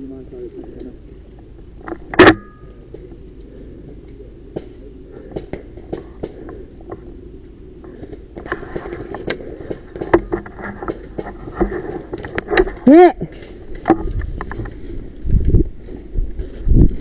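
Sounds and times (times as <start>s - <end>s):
rustling undergrowth: 0.0s - 17.0s.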